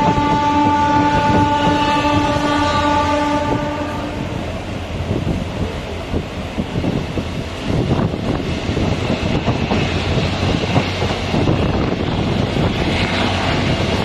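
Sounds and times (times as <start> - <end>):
train wheels rumbling on rail: 0.0 - 14.0
wind on microphone: 0.0 - 14.0.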